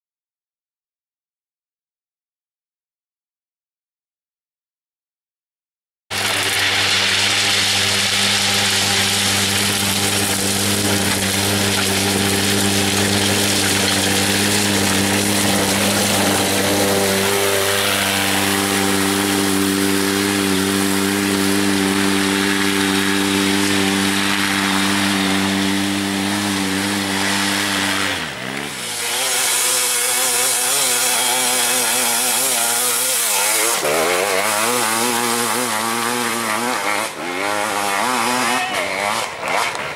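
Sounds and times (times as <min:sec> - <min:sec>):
off-road motorcycle engine revving: 0:06.1 - 0:39.9.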